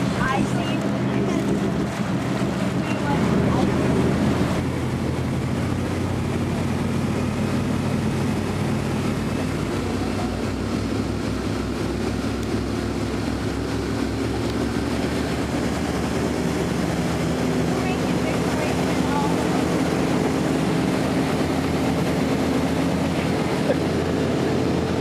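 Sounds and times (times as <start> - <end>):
motorboat engine drone: 0.0 - 25.0.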